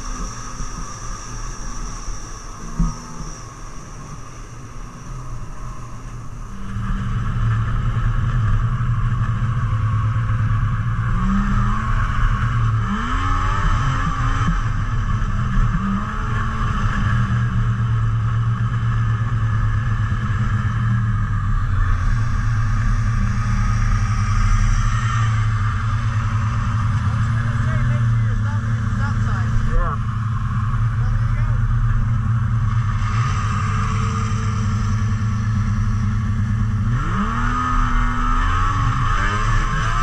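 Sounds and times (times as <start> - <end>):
snowmobile engine droning: 0.0 - 40.0.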